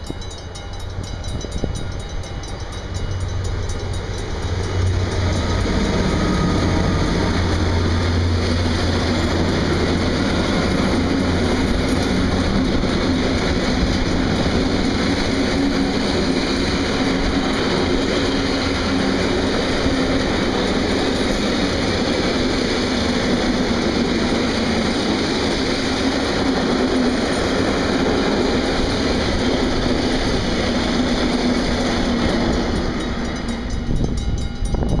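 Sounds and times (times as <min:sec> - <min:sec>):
locomotive engine humming: 0:00.0 - 0:35.0
train wagons rolling and clattering: 0:00.0 - 0:35.0.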